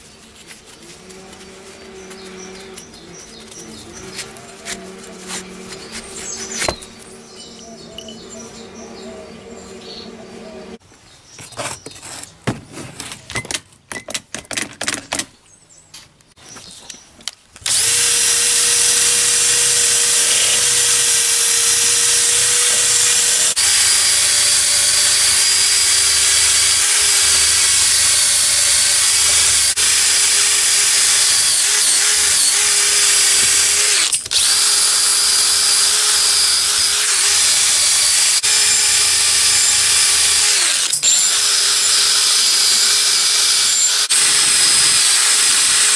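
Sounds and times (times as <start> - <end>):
drill spinning wire wheel brush: 1.0 - 10.8, 17.6 - 45.9.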